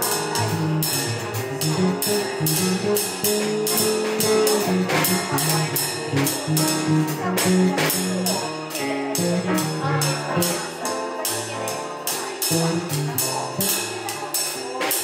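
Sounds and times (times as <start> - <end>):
electric bass line: 0.0 - 11.6, 12.5 - 14.0
keyboard holding notes: 0.0 - 14.8
drum cymbal strokes: 0.0 - 15.0.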